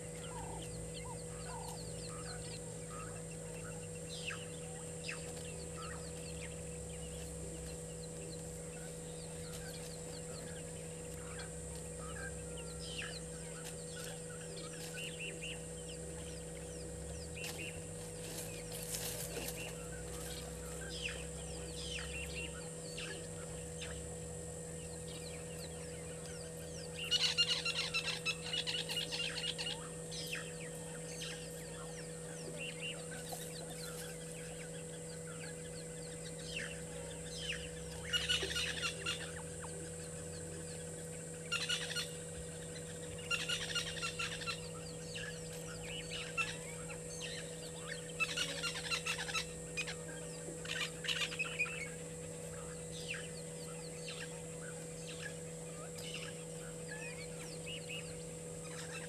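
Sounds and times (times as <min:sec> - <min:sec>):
birds cackling harshly: 0:00.0 - 0:59.0
faint steady hum: 0:00.0 - 0:59.0.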